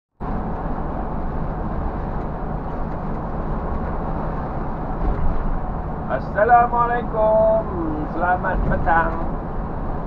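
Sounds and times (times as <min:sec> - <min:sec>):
bus engine drone: 0:00.1 - 0:10.0
road noise: 0:00.1 - 0:10.0.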